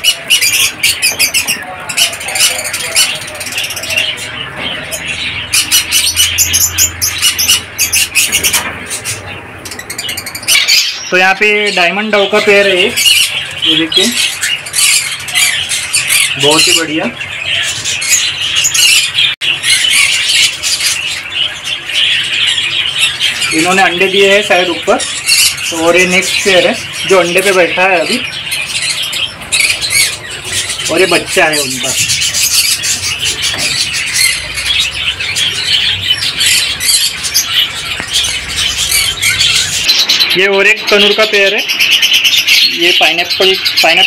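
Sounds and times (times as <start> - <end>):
parrots chattering and chirping: 0.0 - 44.0.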